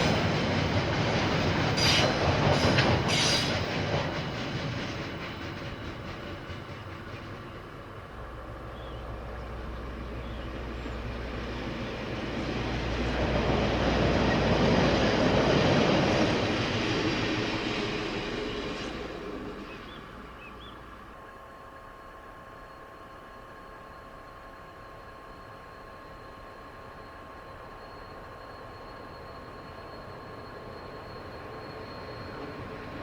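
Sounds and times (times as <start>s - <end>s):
diesel locomotive hum: 0.0s - 33.0s
train wheels rumbling on track: 0.0s - 33.0s.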